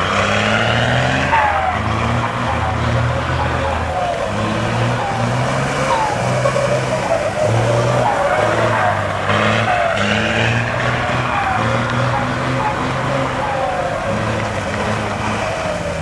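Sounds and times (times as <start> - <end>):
truck engine revving: 0.0 - 16.0
tyres skidding and squealing: 0.0 - 16.0.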